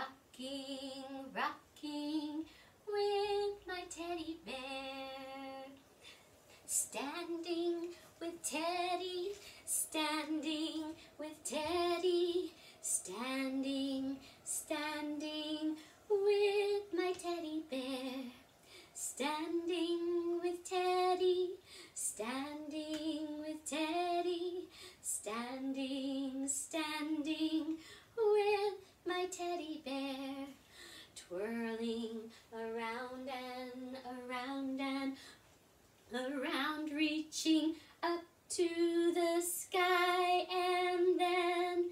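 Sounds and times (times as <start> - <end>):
woman singing unaccompanied: 0.0 - 5.8, 6.7 - 30.6, 31.2 - 35.2, 36.1 - 41.9.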